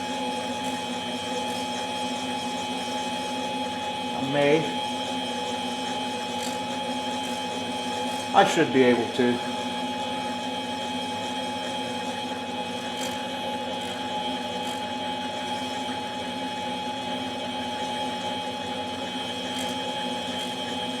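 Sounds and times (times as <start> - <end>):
machine tool humming: 0.0 - 21.0.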